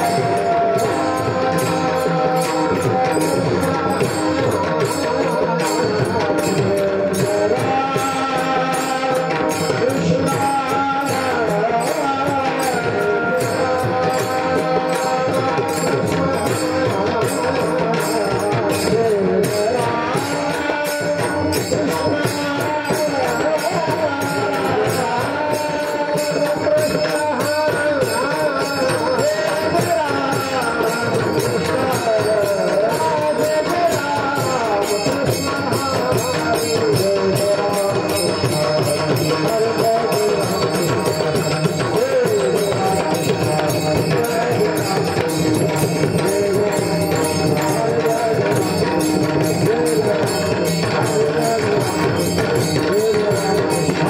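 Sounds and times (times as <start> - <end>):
voices singing devotional song: 0.0 - 54.0.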